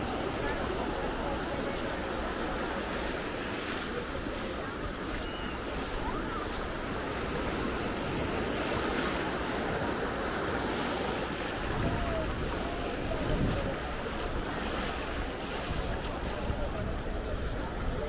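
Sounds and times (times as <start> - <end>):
waves washing onto beach: 0.0 - 18.0.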